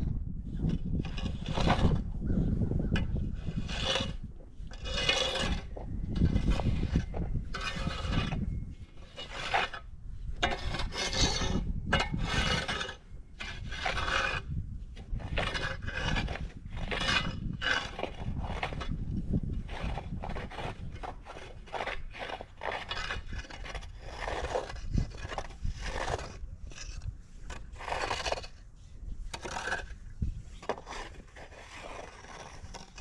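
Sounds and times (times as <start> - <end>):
snow shovel scraping: 3.5 - 9.8, 10.5 - 14.5, 15.1 - 19.0, 19.6 - 33.0.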